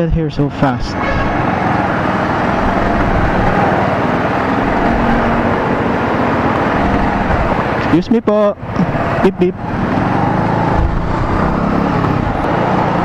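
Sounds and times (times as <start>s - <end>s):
hum of surrounding traffic: 0.0s - 13.0s
motorcycle engine running: 0.9s - 13.0s.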